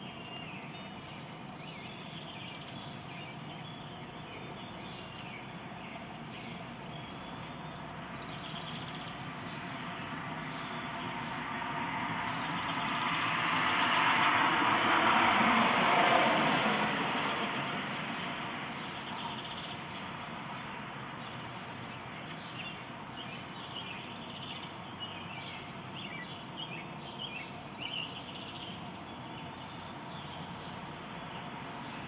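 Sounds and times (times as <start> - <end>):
birds chirping: 0.0 - 32.0
outdoor background noise: 0.0 - 32.0
passing vehicle: 3.6 - 32.0.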